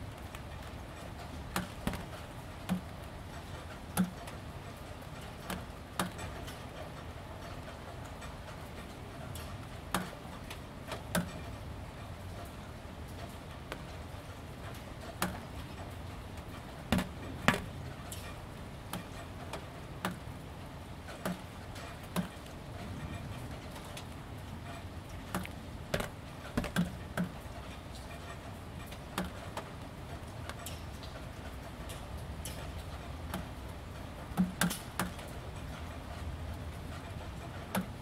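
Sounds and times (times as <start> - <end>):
drips tapping on roof panel: 0.0 - 38.0
gentle rain hiss: 0.0 - 38.0.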